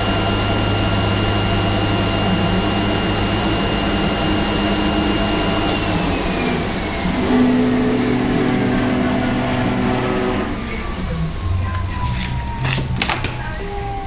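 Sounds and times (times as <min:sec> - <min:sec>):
machine humming with a whine: 0:00.0 - 0:14.0.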